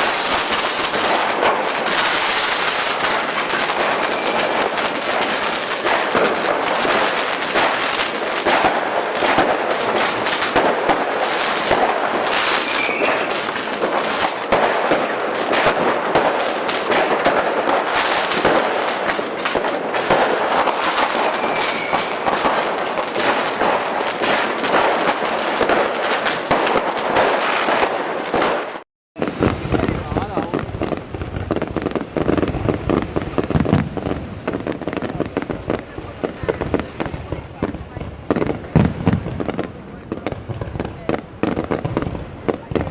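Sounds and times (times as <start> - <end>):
firecrackers crackling: 0.0 - 42.9.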